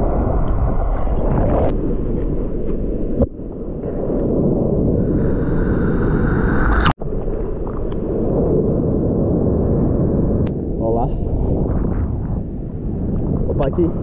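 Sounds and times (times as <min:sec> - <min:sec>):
waves breaking and churning: 0:00.0 - 0:14.0.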